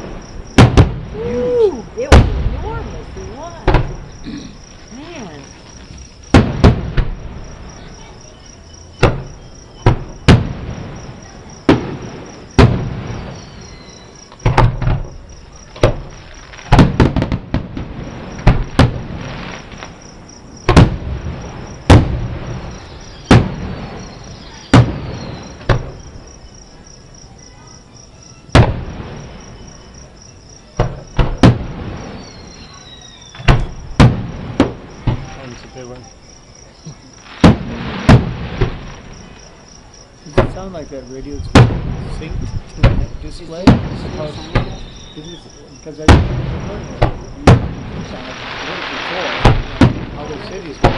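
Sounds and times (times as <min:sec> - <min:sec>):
crickets chirping: 0:00.0 - 0:50.9
distant fireworks booming: 0:00.0 - 0:50.9.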